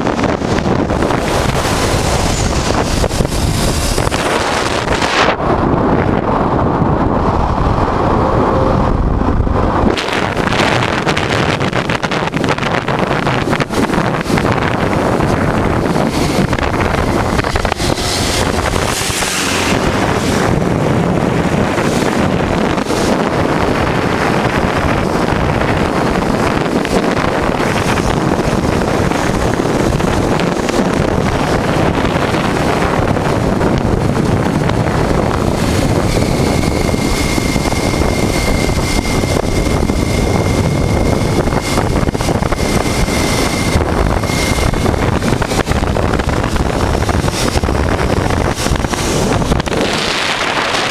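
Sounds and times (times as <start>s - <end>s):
motorcycle engine running: 0.0s - 50.9s
wind rushing over microphone: 0.0s - 50.9s.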